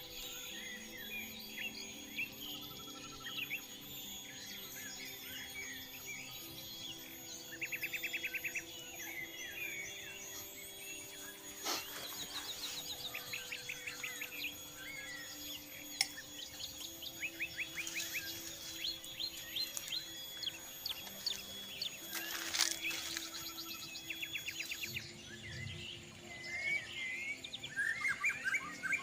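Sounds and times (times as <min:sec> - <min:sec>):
birds chirping: 0:00.0 - 0:29.0
insects droning: 0:00.0 - 0:29.0.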